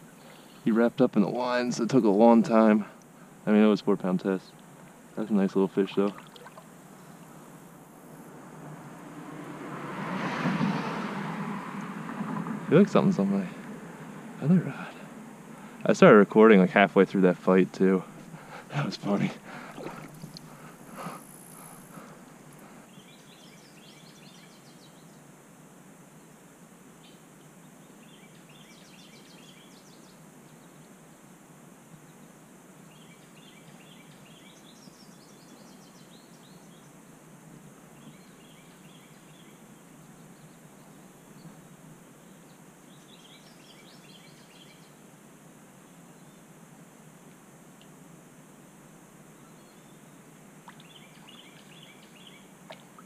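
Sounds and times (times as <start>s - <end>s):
songbird chirping: 0.0s - 8.1s, 11.6s - 25.3s, 27.0s - 31.4s, 32.0s - 37.0s, 37.8s - 45.1s, 45.8s - 46.6s, 49.2s - 53.0s
steady background hiss: 0.0s - 9.7s, 11.2s - 53.0s.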